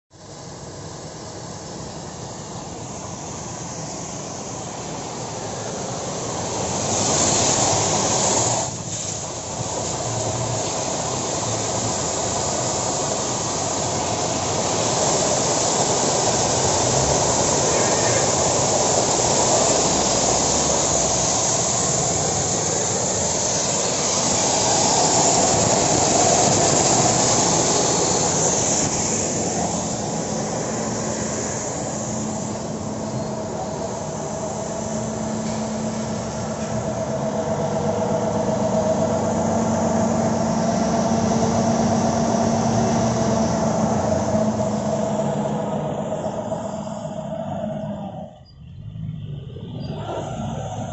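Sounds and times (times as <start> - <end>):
low machine rumble: 0.1 - 50.9
water jetting machine spraying: 0.3 - 48.0.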